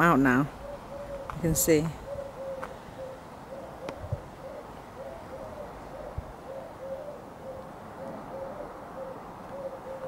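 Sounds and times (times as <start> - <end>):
pigeon cooing: 0.5 - 10.0.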